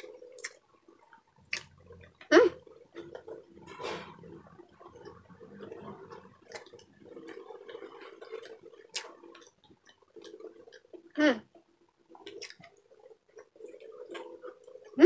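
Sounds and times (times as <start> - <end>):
wet chewing and mouth sounds: 0.0 - 11.2, 12.1 - 15.0.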